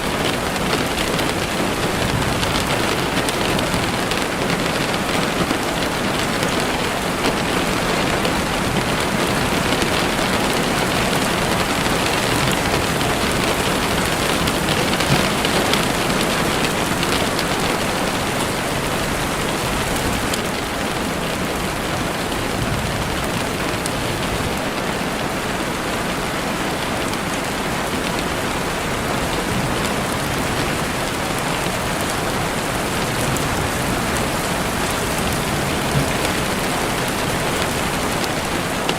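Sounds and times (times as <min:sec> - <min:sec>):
rain falling through trees: 0:00.0 - 0:38.9.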